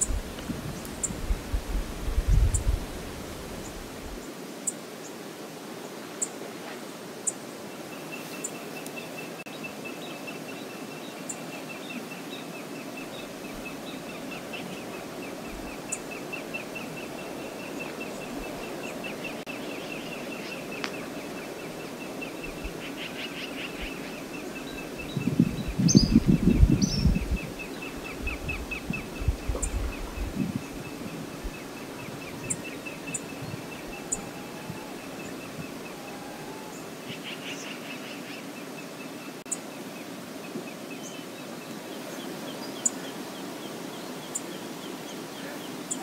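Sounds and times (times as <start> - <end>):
flowing water: 0.0 - 46.0.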